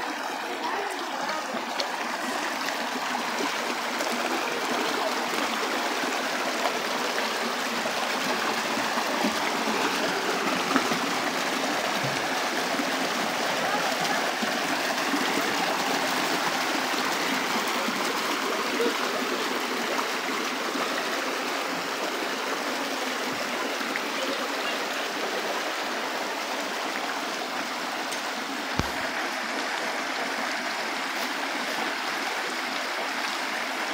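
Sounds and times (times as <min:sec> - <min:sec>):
stream running over stones: 0:00.0 - 0:33.9.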